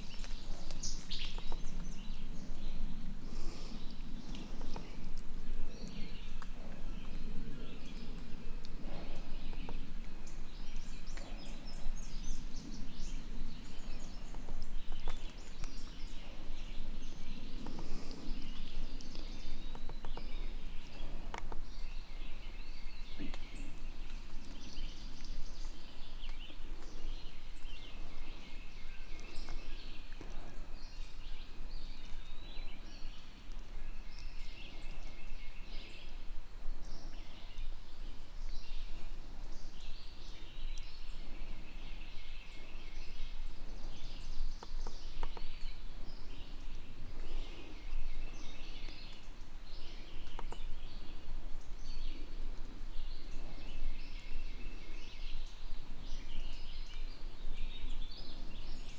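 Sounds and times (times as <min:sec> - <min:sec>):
low background rumble: 0:00.0 - 0:58.9
songbirds chirping and singing: 0:00.0 - 0:58.9.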